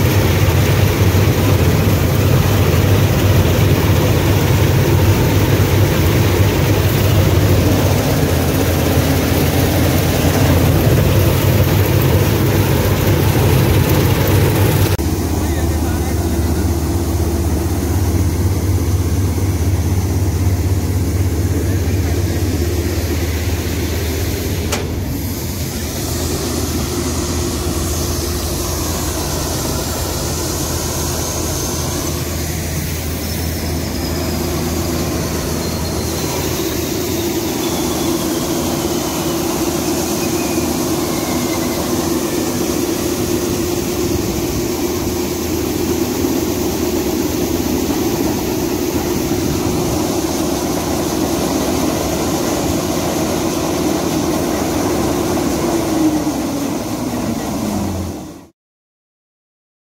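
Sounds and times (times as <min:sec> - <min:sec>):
rush of grain: 0:00.0 - 0:58.3
combine harvester engine drone: 0:00.0 - 0:58.5.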